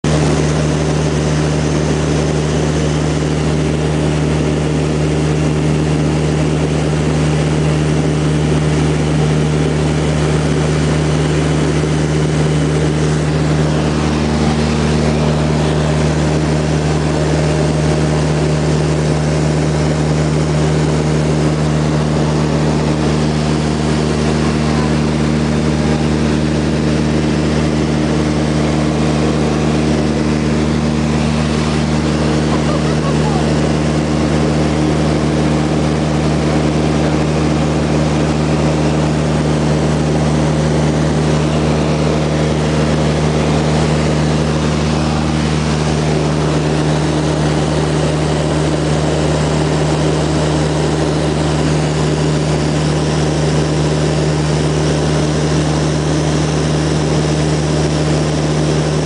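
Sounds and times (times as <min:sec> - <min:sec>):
aircraft engine droning: 0:00.0 - 0:59.0.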